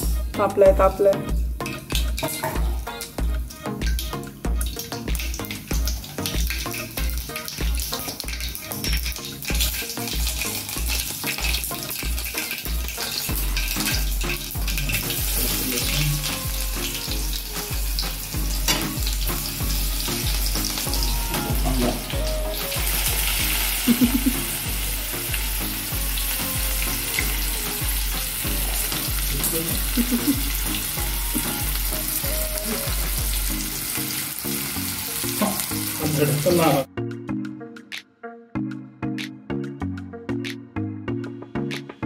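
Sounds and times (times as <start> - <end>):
background music beat: 0.0 - 42.0
food sizzling in hot oil: 1.4 - 36.9.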